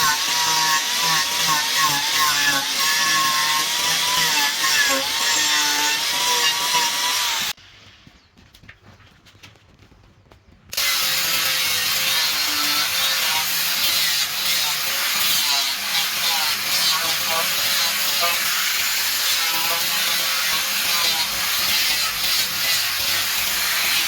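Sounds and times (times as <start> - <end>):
wood lathe with chisel scraping: 0.0 - 7.6, 10.7 - 24.0.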